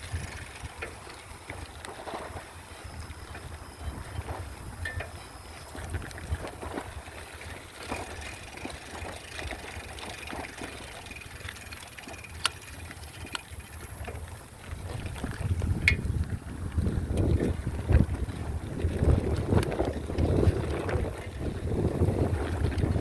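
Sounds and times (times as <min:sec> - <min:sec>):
small clicks and rattles: 0:00.0 - 0:23.0
wind buffeting microphone: 0:00.0 - 0:23.0.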